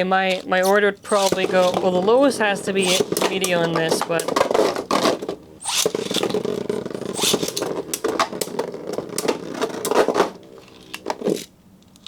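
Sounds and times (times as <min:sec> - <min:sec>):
spinning tops whirring: 0:00.2 - 0:11.5
spinning tops clashing: 0:00.3 - 0:11.5.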